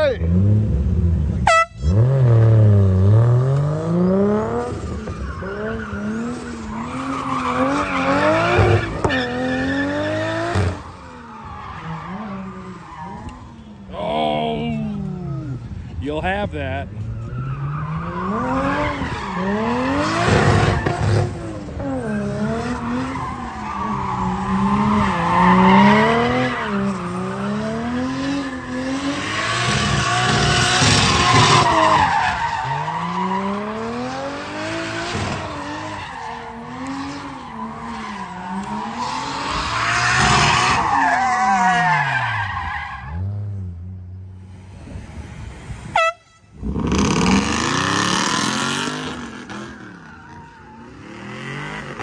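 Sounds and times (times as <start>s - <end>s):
car engine revving: 0.0s - 16.0s, 16.9s - 45.7s, 46.6s - 52.0s
tires squealing: 1.4s - 43.8s, 44.4s - 52.0s.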